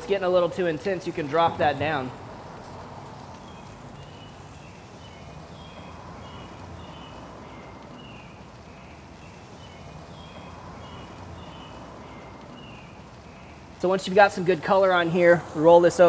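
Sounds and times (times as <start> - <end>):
fat sizzling over charcoal: 0.0 - 16.0
bird chirping: 2.8 - 16.0.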